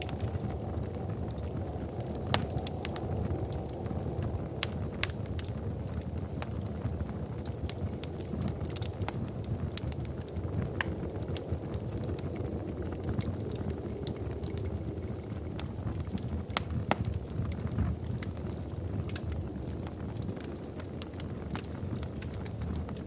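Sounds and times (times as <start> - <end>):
fire popping and snapping: 0.0 - 23.0
low rumble of flames: 0.0 - 23.0.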